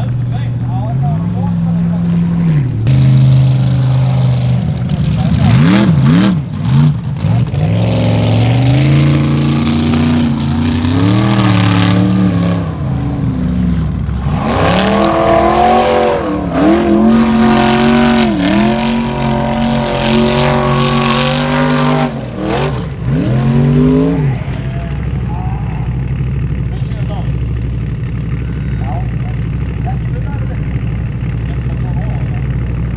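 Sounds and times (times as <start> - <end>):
race engine revving hard: 1.0 - 32.6.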